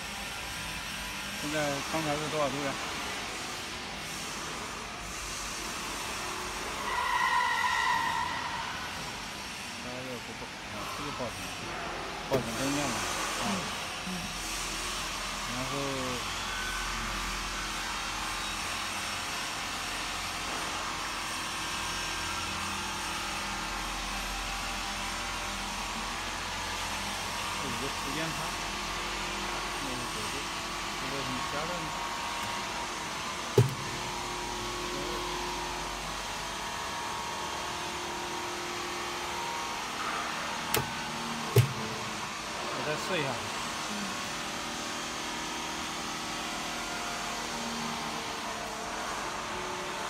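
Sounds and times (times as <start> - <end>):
factory machine hum and hiss: 0.0 - 50.0.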